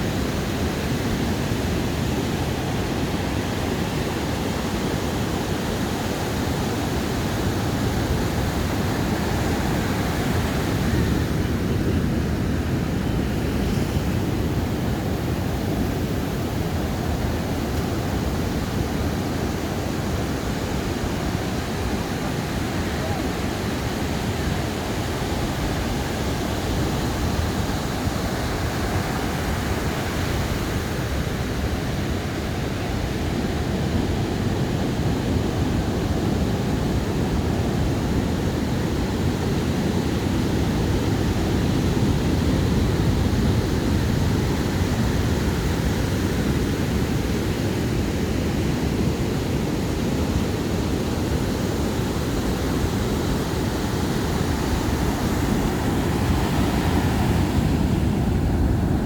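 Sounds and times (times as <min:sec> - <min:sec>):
ocean surf on beach: 0:00.0 - 0:59.0.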